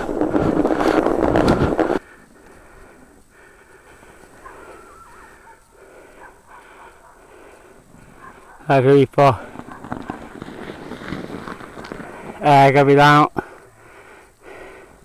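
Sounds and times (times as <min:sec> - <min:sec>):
faint outdoor sound: 0:00.0 - 0:15.0
rushing and crunching through snow: 0:00.0 - 0:15.0.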